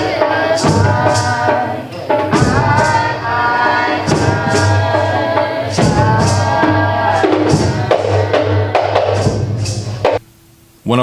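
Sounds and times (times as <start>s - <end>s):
person singing: 0.0s - 9.5s
drums: 0.0s - 10.9s.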